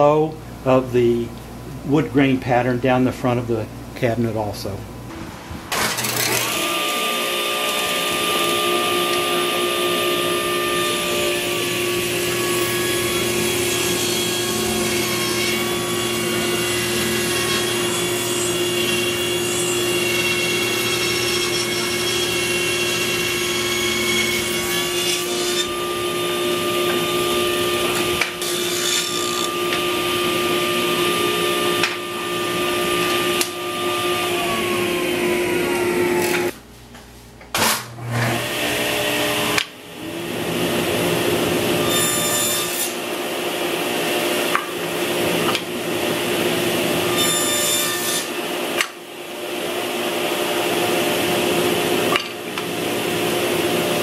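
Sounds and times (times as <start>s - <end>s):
table saw running: 5.7s - 36.5s, 38.0s - 54.0s.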